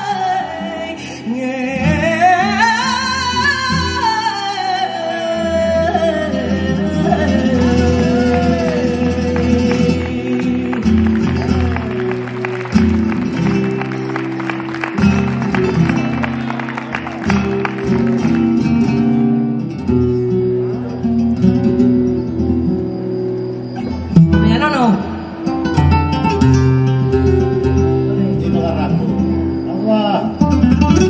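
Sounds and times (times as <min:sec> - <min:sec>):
flamenco guitar playing: 0:00.0 - 0:31.0.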